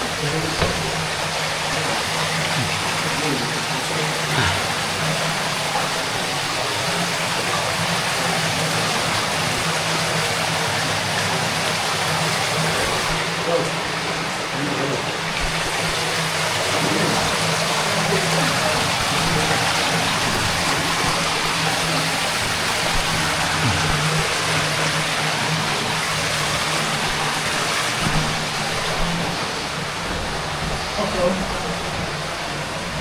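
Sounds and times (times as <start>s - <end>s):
rushing water in a cave: 0.0s - 33.0s.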